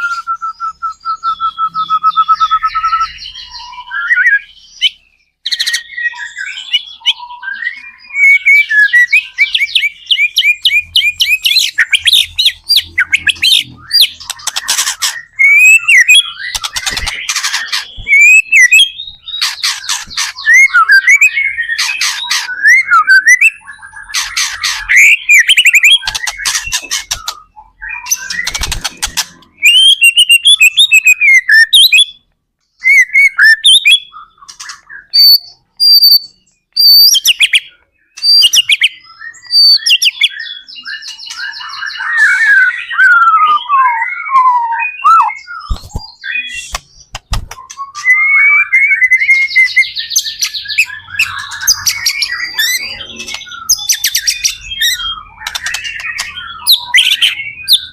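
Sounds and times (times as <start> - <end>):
bird singing varied trills: 0.0 - 57.9.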